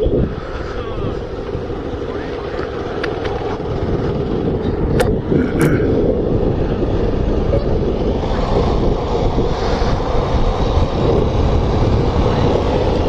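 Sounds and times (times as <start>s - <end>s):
motorcycle engine rumble: 0.0s - 13.0s
wind rushing over microphone: 0.0s - 13.0s.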